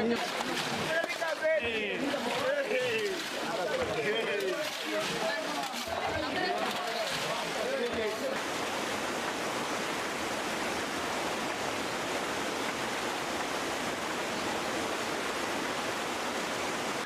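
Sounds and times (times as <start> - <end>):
floodwater torrent rushing: 0.0 - 17.0.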